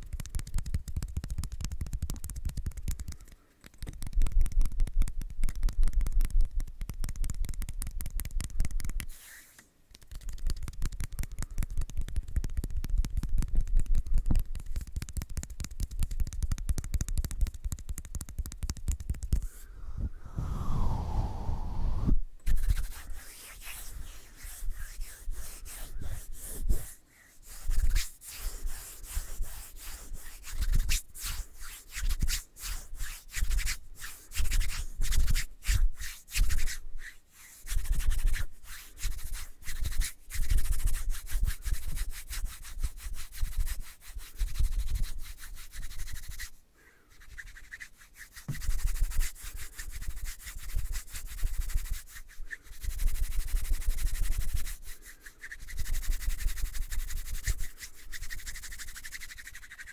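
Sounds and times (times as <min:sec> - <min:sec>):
rubbing and brushing on microphone: 0:00.0 - 0:19.7, 0:20.6 - 0:59.9.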